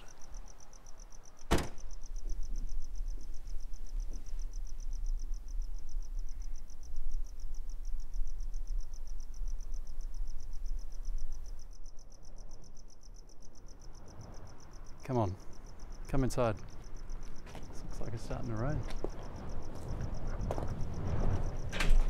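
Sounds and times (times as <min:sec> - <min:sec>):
crickets chirping: 0:00.0 - 0:22.0
steady low rumble: 0:01.8 - 0:22.0.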